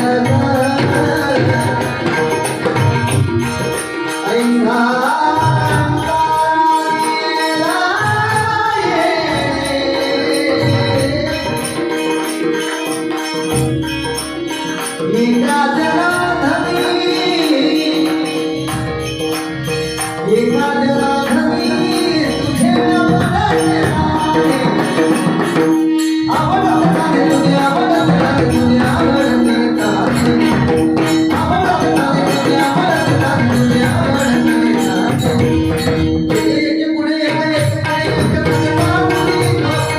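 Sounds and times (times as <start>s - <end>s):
man singing devotional song: 0.0s - 12.8s, 14.8s - 39.9s
hand drum: 0.0s - 39.9s
jingling percussion: 0.0s - 39.9s.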